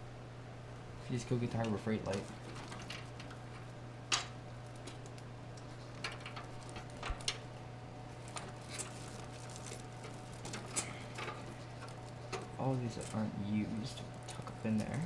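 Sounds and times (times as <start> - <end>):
steady low hum: 0.0 - 15.0
cables and plastic parts clicking: 1.5 - 7.4, 8.2 - 15.0.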